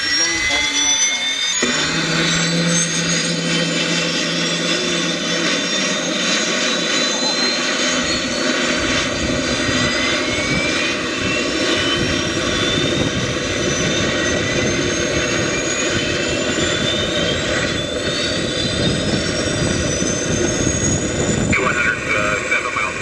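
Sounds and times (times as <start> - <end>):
model helicopter whining: 0.0 - 23.0.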